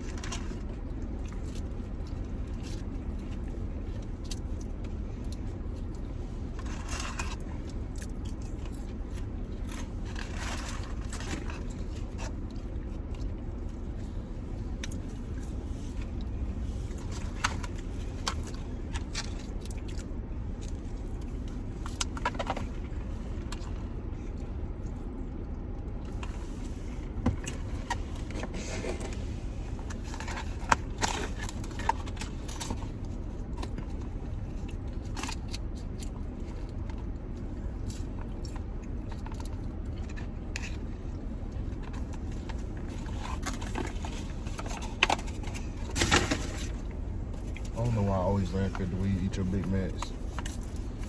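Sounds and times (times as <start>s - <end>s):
chewing: 0.0s - 51.0s
steady low hum: 0.0s - 51.0s.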